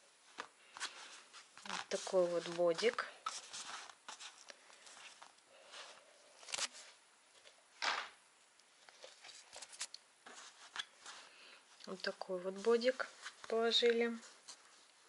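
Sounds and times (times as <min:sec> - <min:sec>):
fabric rustling: 0:00.0 - 0:07.5, 0:08.7 - 0:15.0.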